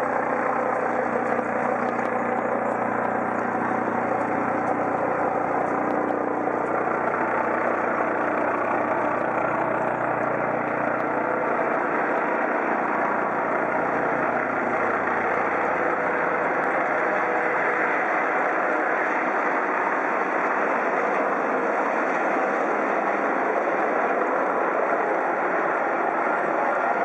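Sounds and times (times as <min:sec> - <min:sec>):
helicopter flying overhead: 0:00.0 - 0:27.0.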